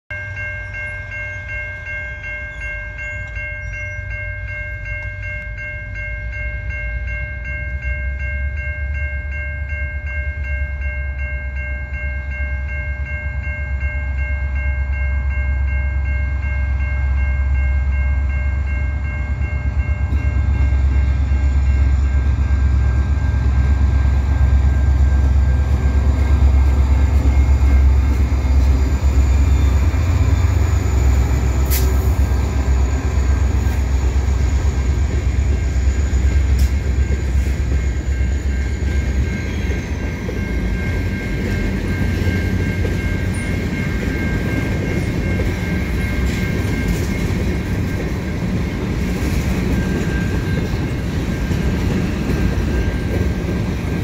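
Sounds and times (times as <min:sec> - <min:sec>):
diesel locomotive engine drone: 0:00.1 - 0:54.0
high ringing tones: 0:00.1 - 0:54.0.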